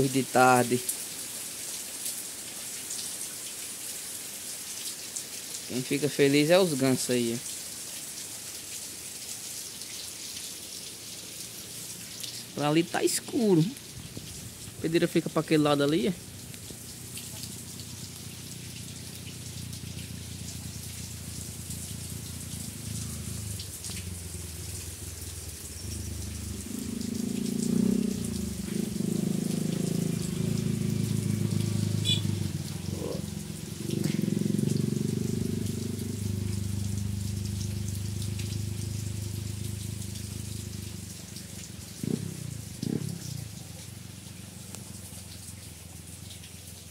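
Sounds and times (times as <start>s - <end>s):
rain pattering on wet ground: 0.0s - 46.9s.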